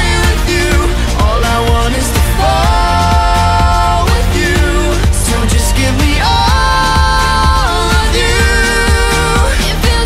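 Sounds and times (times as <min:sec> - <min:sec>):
pop song music: 0:00.0 - 0:10.0.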